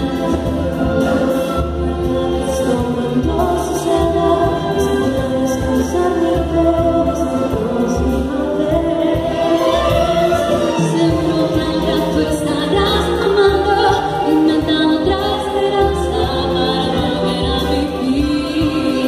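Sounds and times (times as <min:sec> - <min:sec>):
string orchestra with violins: 0:00.0 - 0:19.0
women singing sustained notes: 0:00.0 - 0:19.0
woodwinds: 0:00.0 - 0:19.0.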